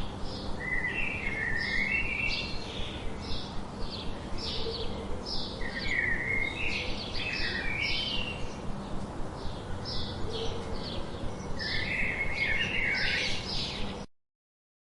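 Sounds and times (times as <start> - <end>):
faint background hum: 0.0 - 14.1.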